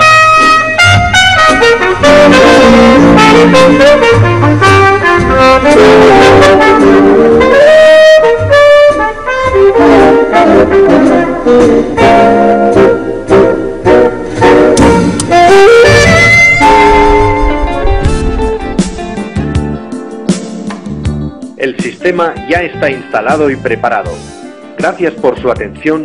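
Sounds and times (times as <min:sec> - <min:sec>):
jazz horn section playing: 0:00.0 - 0:25.0.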